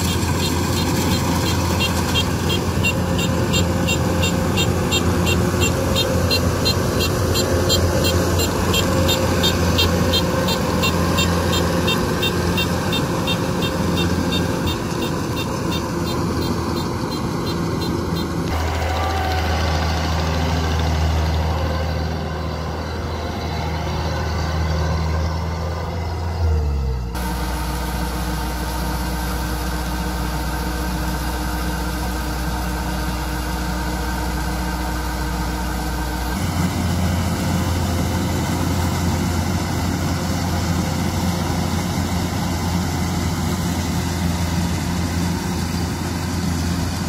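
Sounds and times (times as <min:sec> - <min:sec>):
combine harvester engine humming: 0:00.0 - 0:47.0.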